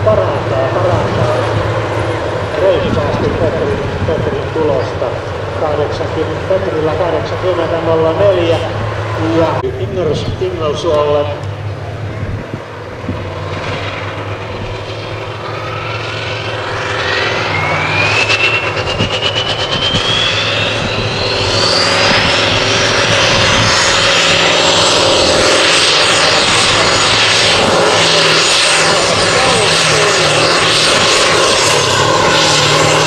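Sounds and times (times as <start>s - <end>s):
diesel truck engine at full power: 0.0s - 33.0s
turbo whine rising: 0.0s - 33.0s.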